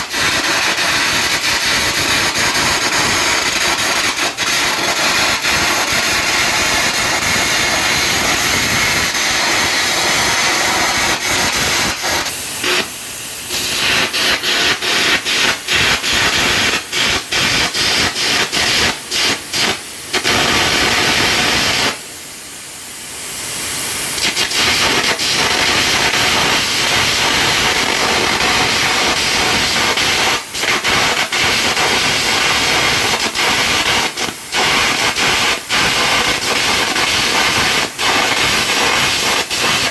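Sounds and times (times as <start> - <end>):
compressed air jet blasting: 0.0 - 22.1, 23.0 - 39.9
electric arc crackling hiss: 0.0 - 39.9.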